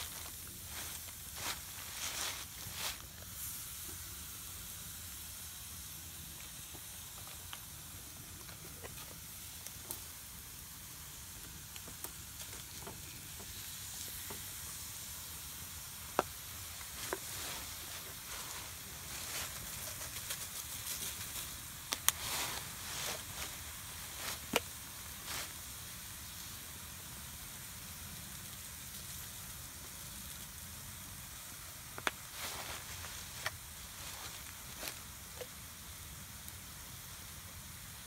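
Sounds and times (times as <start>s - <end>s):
meat sizzling with pops: 0.0s - 38.0s.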